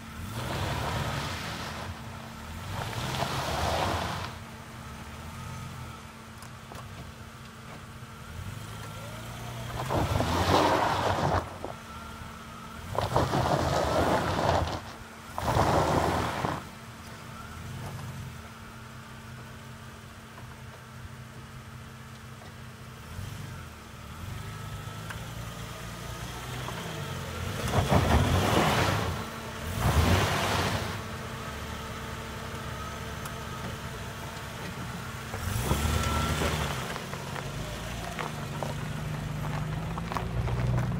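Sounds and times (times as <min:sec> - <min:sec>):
engine pulling up a climb: 0:00.0 - 0:40.9
tyres crunching over gravel: 0:00.1 - 0:18.7, 0:24.2 - 0:40.9.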